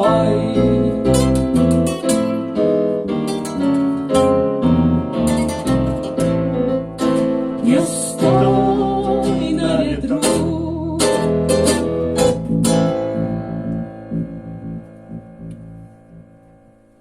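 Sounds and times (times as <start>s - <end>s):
acoustic guitars strumming: 0.0s - 17.0s.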